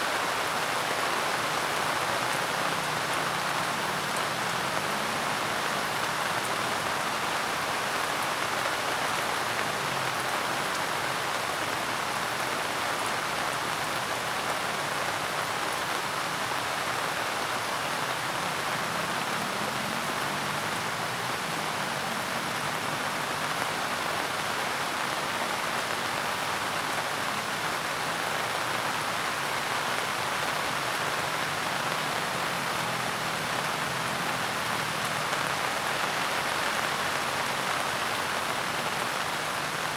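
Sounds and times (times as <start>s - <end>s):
rain pattering on surface: 0.0s - 39.9s.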